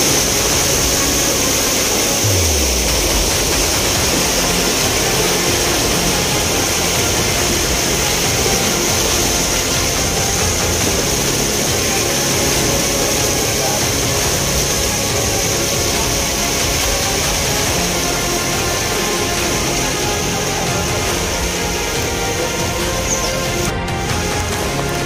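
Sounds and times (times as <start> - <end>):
floodwater rushing: 0.0 - 25.0
low rumble: 0.0 - 25.0.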